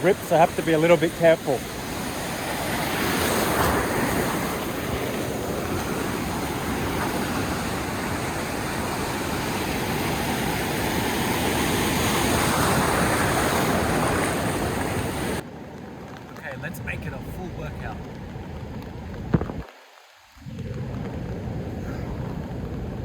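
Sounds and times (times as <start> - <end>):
sea surf breaking: 0.0 - 15.4, 16.4 - 23.0.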